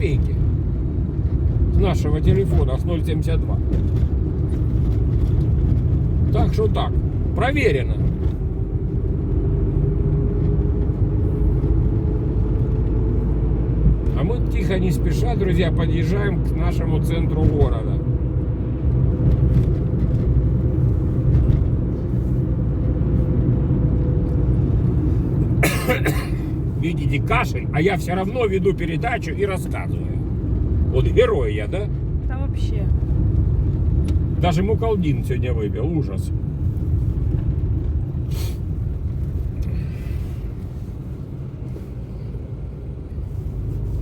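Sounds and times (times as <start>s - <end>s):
engine and road noise: 0.0s - 44.0s.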